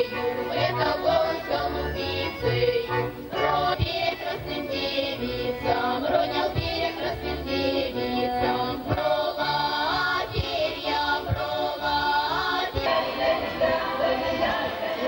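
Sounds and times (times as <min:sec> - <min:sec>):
folk music with accordion: 0:00.0 - 0:15.0.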